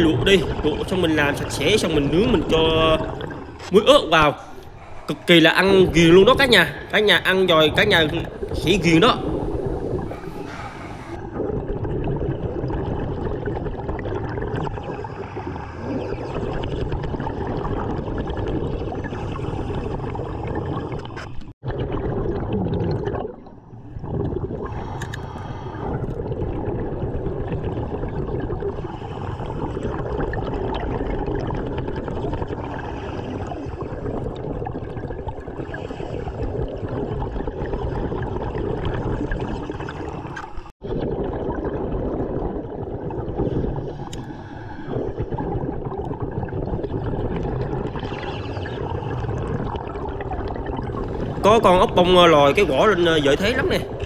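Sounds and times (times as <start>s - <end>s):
underwater bubbling and gurgling: 0.0s - 54.0s.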